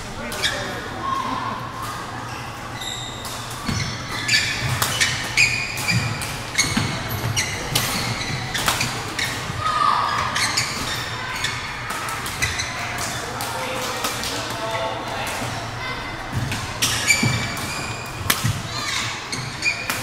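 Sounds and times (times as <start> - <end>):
spectators chattering: 0.0 - 20.0
shoes squeaking on court: 0.2 - 0.8, 1.9 - 13.4, 15.6 - 20.0.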